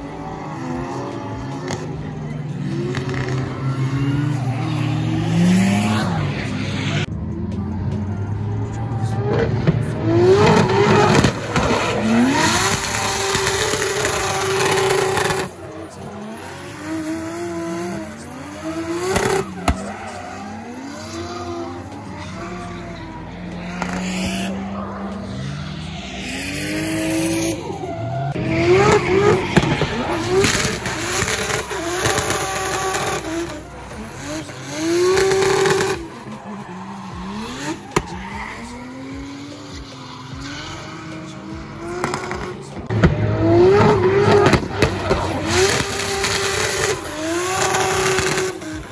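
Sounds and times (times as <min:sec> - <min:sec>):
car engines revving hard: 0:00.0 - 0:48.9
tyres squealing and skidding: 0:00.0 - 0:48.9.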